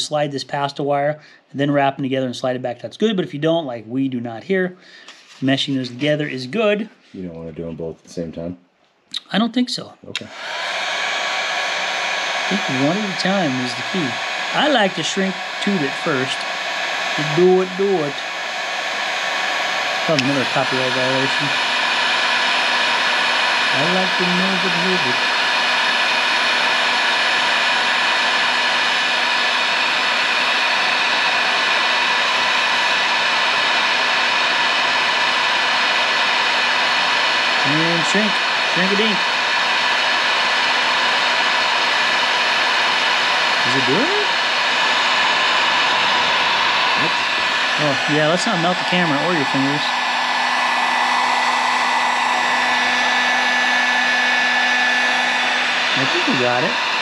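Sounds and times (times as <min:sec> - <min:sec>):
heat gun fan blowing hot air: 0:10.2 - 0:57.0.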